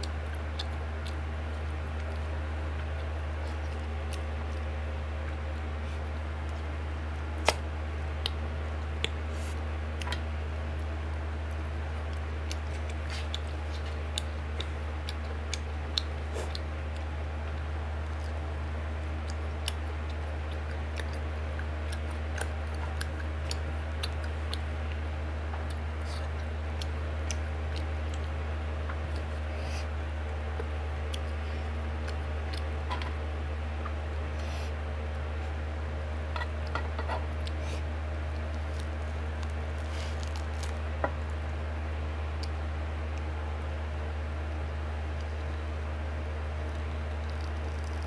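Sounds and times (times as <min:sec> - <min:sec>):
chewing and eating with fingers: 0:00.0 - 0:48.0
steady low hum: 0:00.0 - 0:48.0.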